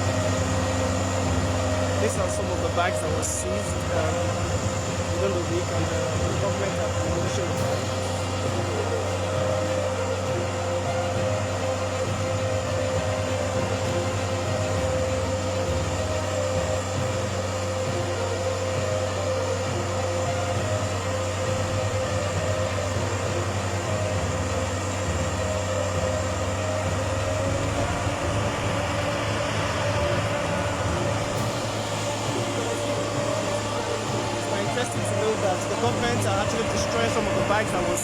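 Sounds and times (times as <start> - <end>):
heavy machinery running: 0.0 - 38.0.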